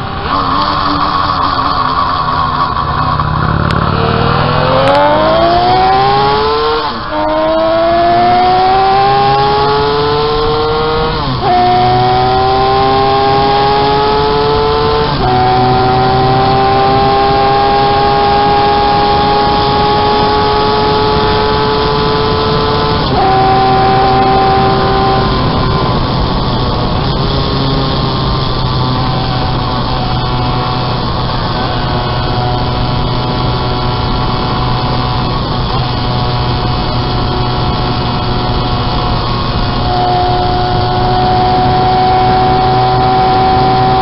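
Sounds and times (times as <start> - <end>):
motorcycle engine at full throttle: 0.0 - 44.0.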